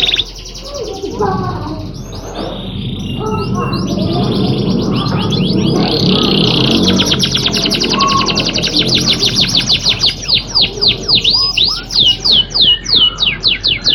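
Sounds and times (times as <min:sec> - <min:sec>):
canary singing a fast trill: 0:00.0 - 0:13.9.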